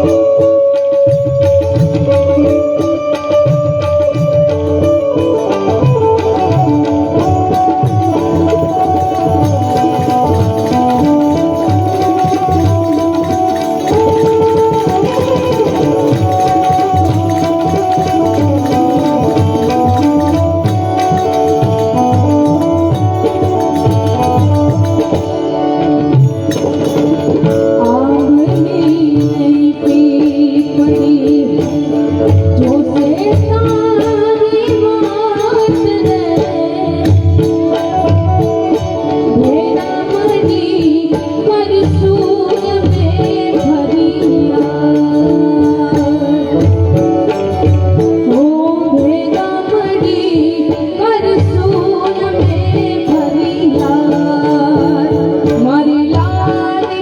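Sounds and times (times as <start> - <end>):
tabla-like drum beat: 0.0 - 57.0.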